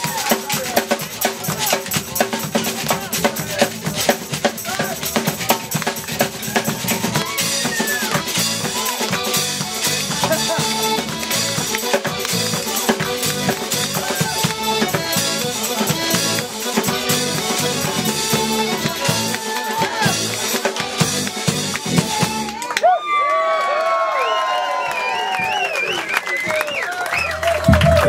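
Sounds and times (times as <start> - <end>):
steady drum beat: 0.0 - 22.6, 27.3 - 28.0
folk band playing upbeat tune: 0.0 - 22.8, 26.3 - 28.0.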